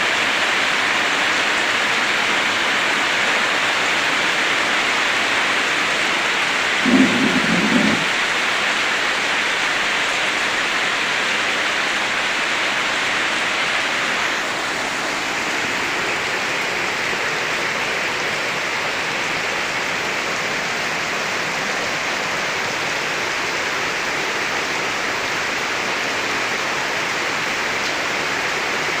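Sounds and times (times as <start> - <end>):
steady rain pouring: 0.0 - 29.0.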